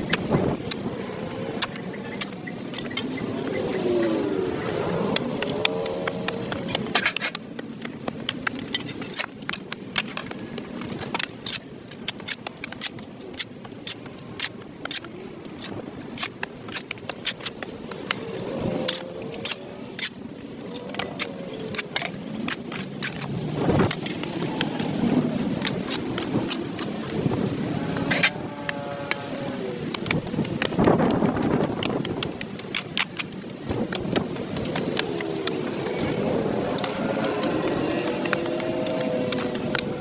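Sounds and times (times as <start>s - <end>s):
hand tool scraping concrete: 1.6s - 40.0s.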